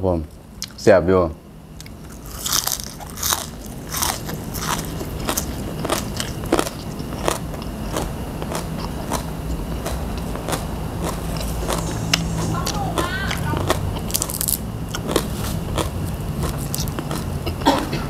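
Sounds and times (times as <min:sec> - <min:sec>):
crunchy vegetable chewing: 0:01.8 - 0:18.0.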